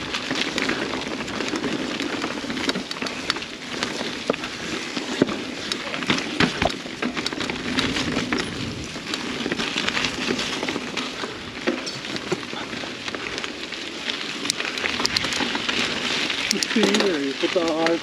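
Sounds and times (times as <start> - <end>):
bike clicks and rattles: 0.0 - 18.0
bike tyres crackling over grit: 0.0 - 18.0.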